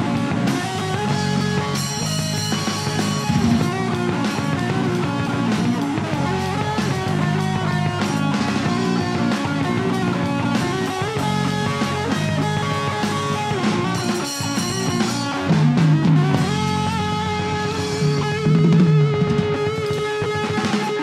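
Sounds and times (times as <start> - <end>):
bass guitar: 0.0 - 21.0
drum kit: 0.0 - 21.0
electric guitars: 0.0 - 21.0.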